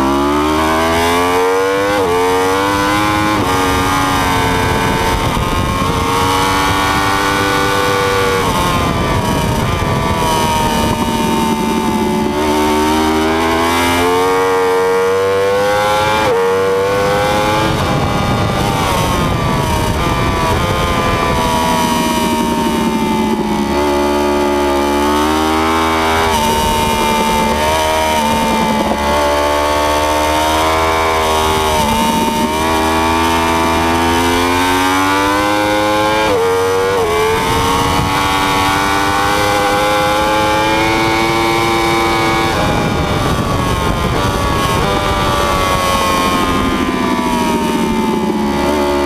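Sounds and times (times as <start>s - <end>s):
motorcycle engine accelerating: 0.0s - 49.0s
wind rush: 0.4s - 49.0s.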